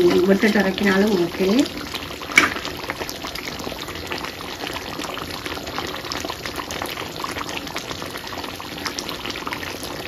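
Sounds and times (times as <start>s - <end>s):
curry bubbling in a pot: 0.0s - 10.0s.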